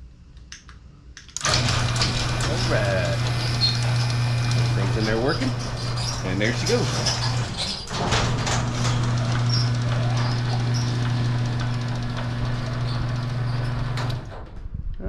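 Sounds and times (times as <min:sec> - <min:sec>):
garage door opener motor humming: 0:01.4 - 0:14.6.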